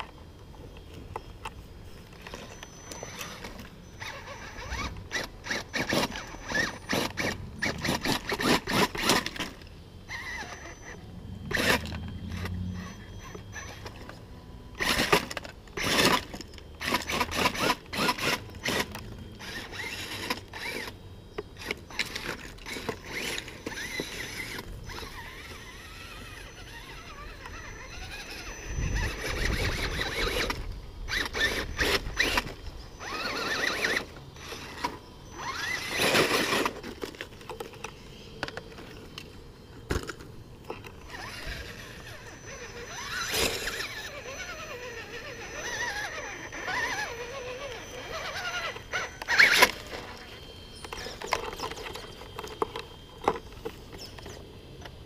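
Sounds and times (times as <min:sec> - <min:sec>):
electric motor whine: 0:00.0 - 0:55.0.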